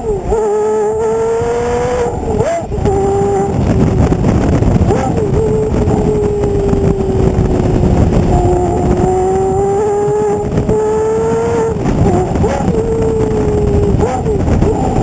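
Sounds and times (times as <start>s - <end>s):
loud car exhaust note: 0.0s - 15.0s.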